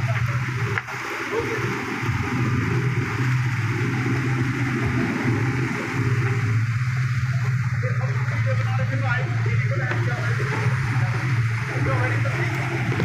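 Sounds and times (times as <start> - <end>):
constant hiss: 0.0 - 13.0
low engine drone: 0.0 - 13.0.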